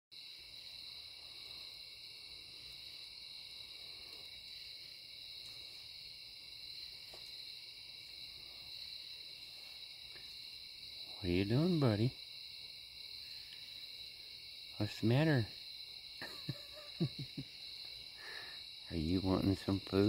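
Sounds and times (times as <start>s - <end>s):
crickets trilling: 0.1s - 20.0s.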